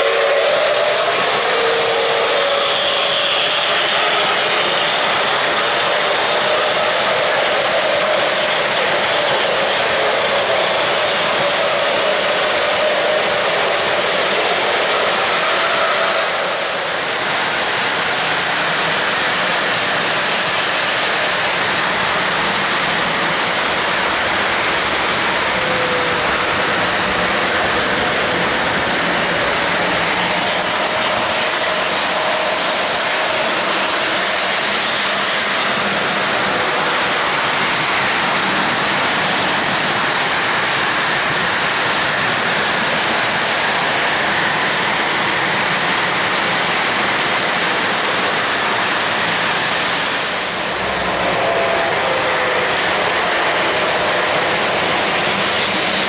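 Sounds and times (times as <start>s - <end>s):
model train wheels clattering on track: 2.7s - 56.0s.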